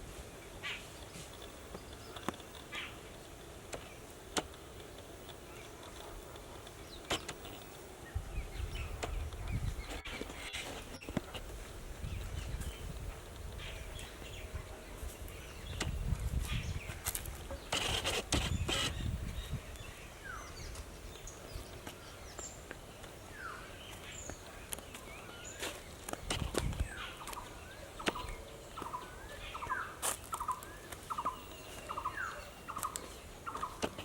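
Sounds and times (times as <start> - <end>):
birds calling: 0.3 - 34.0.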